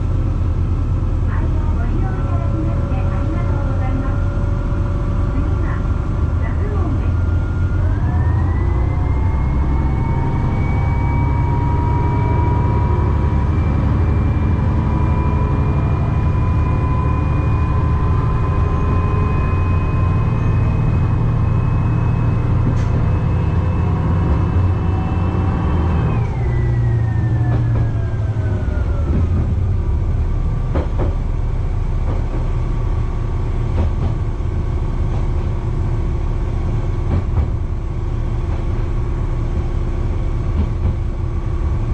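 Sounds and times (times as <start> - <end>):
diesel railcar engine rumbling: 0.0 - 41.9.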